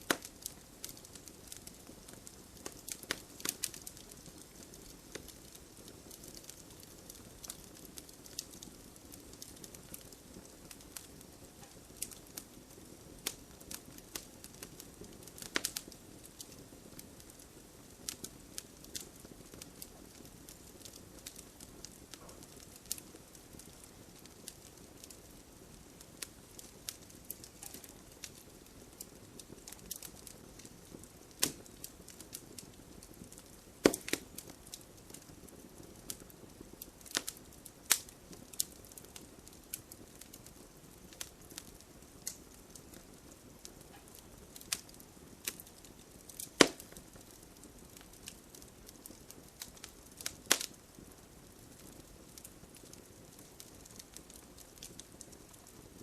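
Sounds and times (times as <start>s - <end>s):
campfire crackling and popping: 0.0s - 56.0s
soft rustle of flame: 0.0s - 56.0s.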